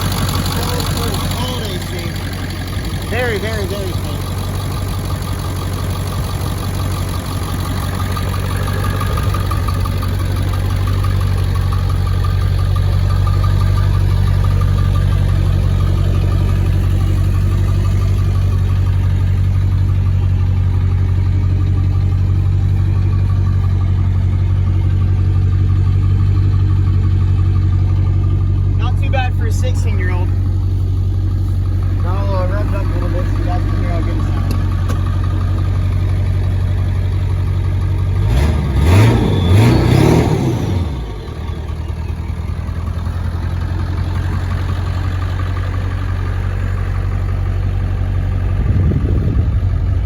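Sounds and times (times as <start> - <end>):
diesel truck engine idling: 0.0 - 50.0.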